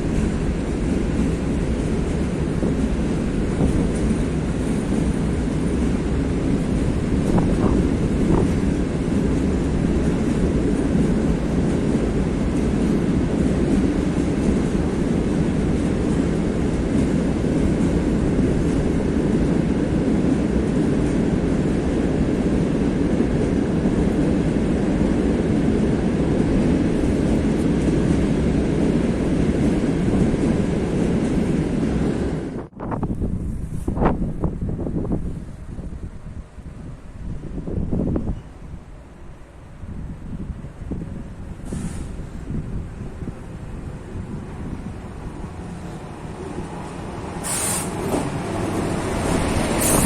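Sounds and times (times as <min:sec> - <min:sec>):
train wagons rumbling on track: 0:00.0 - 0:50.0.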